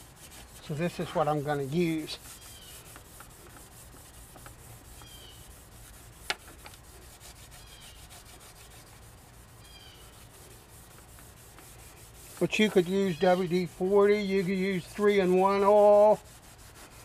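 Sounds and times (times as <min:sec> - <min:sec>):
steel wool scrubbing metal: 0:00.0 - 0:17.0.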